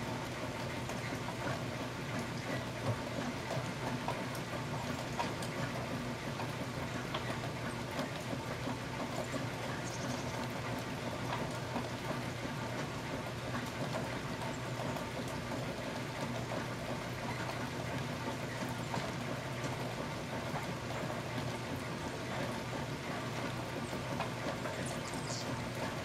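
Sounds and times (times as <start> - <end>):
rain pattering: 0.0 - 26.0.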